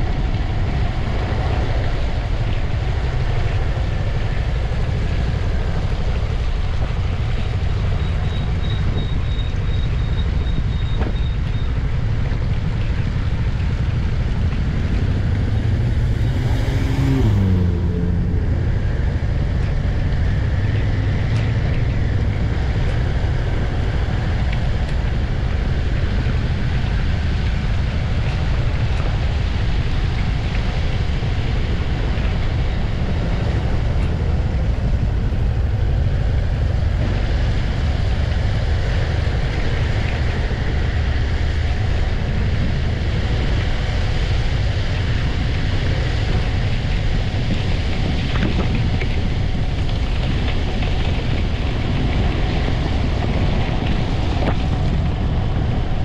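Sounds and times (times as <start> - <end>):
wind buffeting camera: 0.0 - 56.0.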